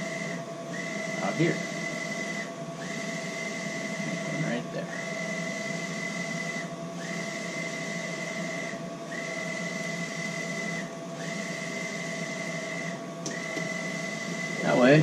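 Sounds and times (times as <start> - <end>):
printer carriage whine: 0.0 - 15.0
steady hum: 0.0 - 15.0.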